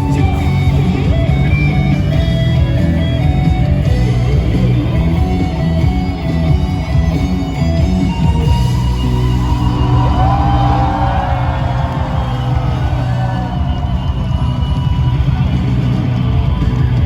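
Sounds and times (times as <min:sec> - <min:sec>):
electric guitar strumming: 0:00.0 - 0:16.6
live rock band playing: 0:00.0 - 0:17.0.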